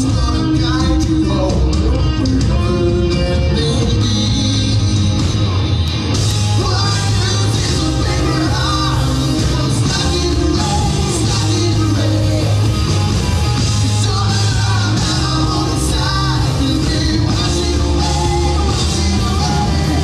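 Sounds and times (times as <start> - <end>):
live rock band playing: 0.0 - 20.0
man singing lead vocal: 0.0 - 20.0.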